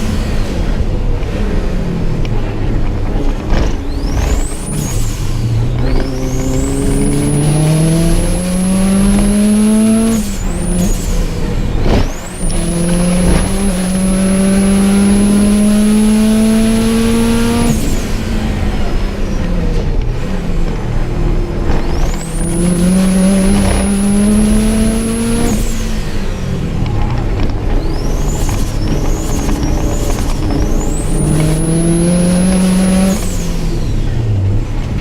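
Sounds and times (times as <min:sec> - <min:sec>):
car engine accelerating hard: 0:00.0 - 0:35.0
high whine: 0:00.0 - 0:35.0.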